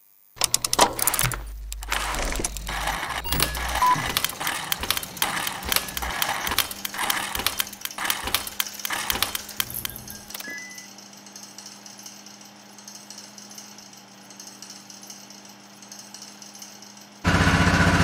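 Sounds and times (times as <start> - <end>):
gears clicking and ratcheting: 0.4 - 17.3.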